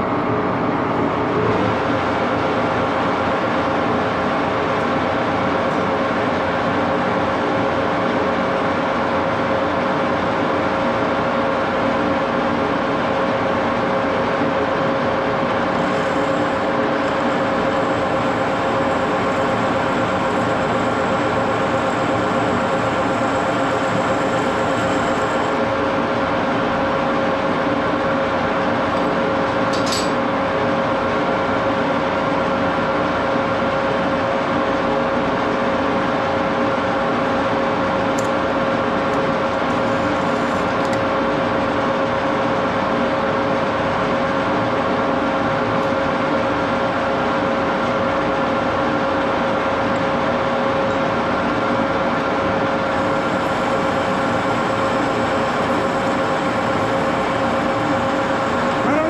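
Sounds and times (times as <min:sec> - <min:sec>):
lathe running with geared whine: 0:00.0 - 0:59.0.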